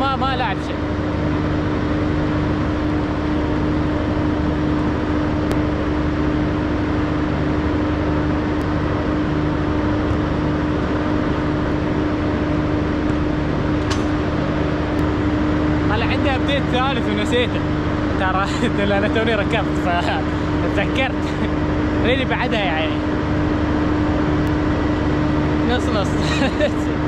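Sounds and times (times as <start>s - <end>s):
motor humming: 0.0s - 27.0s.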